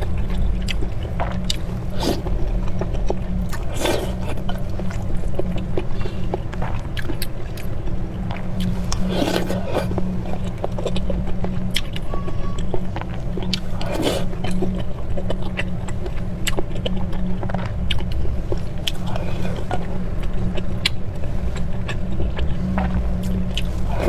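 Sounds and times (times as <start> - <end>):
chewing and biting: 0.0 - 24.0
steady low hum: 0.0 - 24.0.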